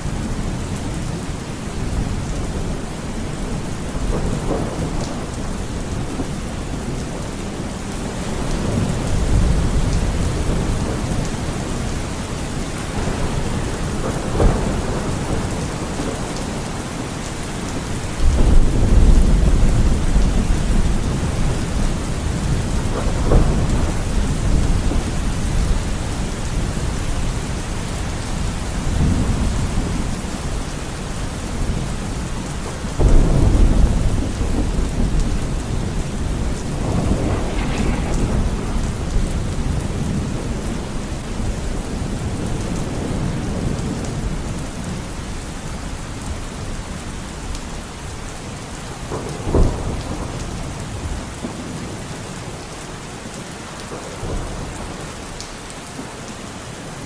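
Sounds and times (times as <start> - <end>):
rolling thunder: 0.0 - 47.6
steady rain: 0.0 - 57.0.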